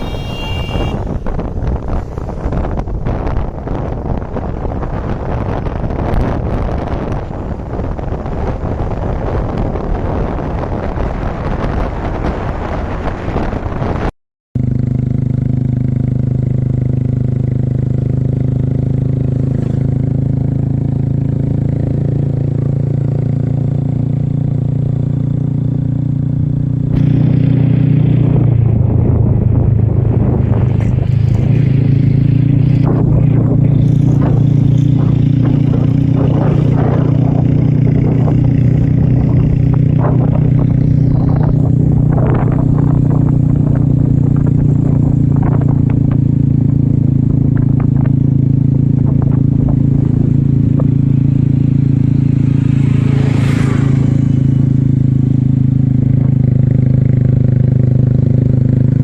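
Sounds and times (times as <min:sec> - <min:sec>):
motorcycle engine running: 0:00.0 - 0:09.9, 0:14.6 - 0:59.0.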